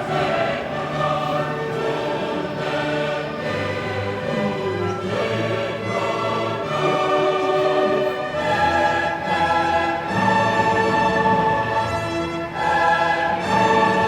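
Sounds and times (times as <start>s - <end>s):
orchestral music: 0.0s - 14.0s.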